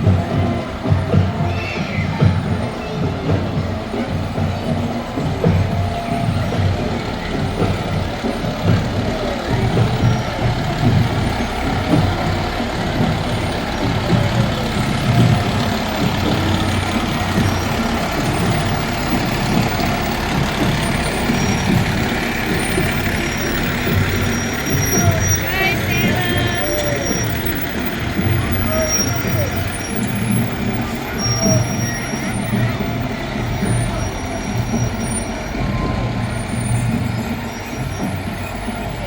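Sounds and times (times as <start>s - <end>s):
fire truck engine rumbling: 0.0s - 39.0s.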